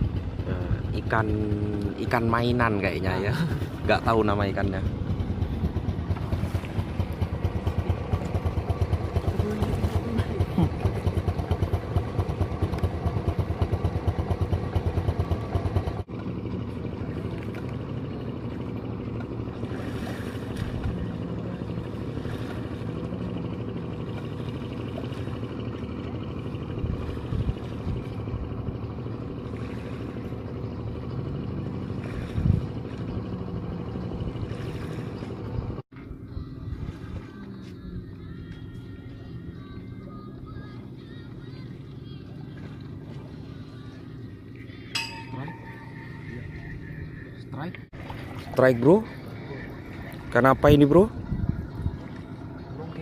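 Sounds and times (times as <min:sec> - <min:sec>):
motor engine running: 0:00.0 - 0:53.0.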